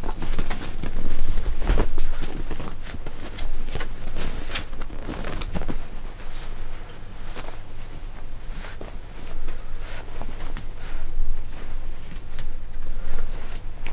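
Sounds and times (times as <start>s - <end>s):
clothes rustling: 0.0s - 13.9s.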